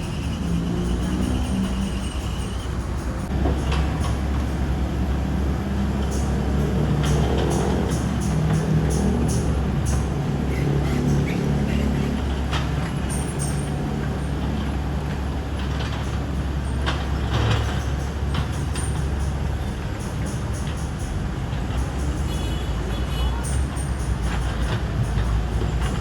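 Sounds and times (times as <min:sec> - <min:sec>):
excavator diesel engine running: 0:00.0 - 0:26.0
metal clanks: 0:00.0 - 0:26.0.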